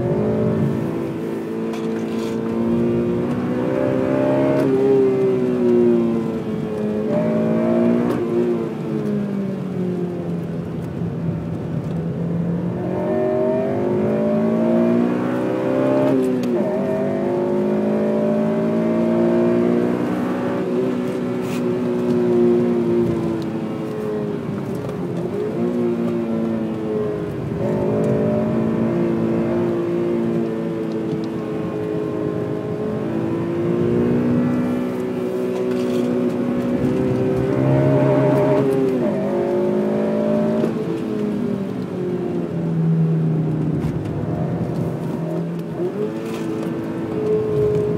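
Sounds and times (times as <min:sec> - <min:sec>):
car engine revving: 0:00.0 - 0:10.9, 0:12.4 - 0:47.9.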